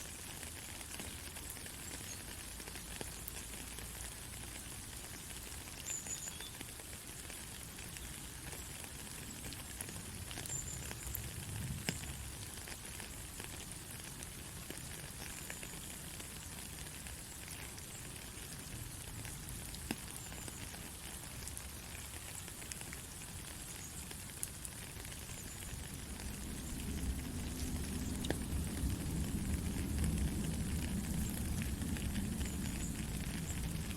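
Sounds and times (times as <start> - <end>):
rain drop ticks: 0.0 - 33.9
soft rain hiss: 0.0 - 33.9.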